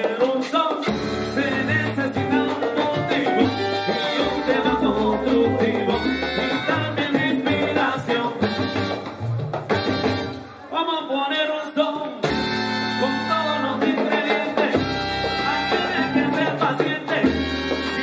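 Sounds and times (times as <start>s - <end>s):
man singing: 0.0s - 8.9s, 10.7s - 18.0s
live salsa band playing: 0.0s - 18.0s.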